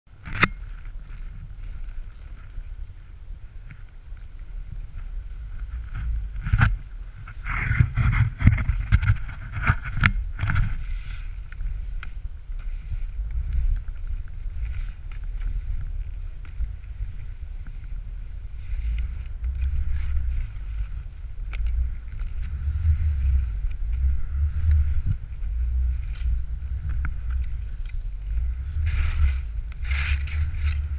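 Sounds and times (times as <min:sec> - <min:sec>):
wind buffeting microphone: 0:00.1 - 0:30.9
skis on snow: 0:00.5 - 0:30.9.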